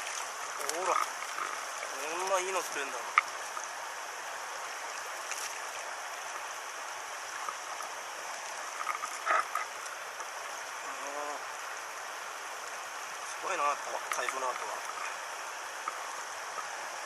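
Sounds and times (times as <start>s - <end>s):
stream flowing over stones: 0.0s - 17.0s.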